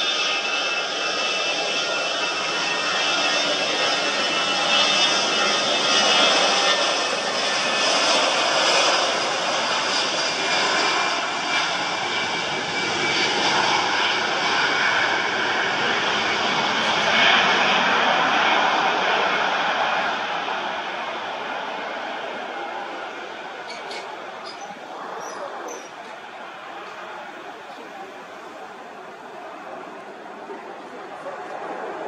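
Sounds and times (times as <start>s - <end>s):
jet engines running: 0.0s - 32.0s.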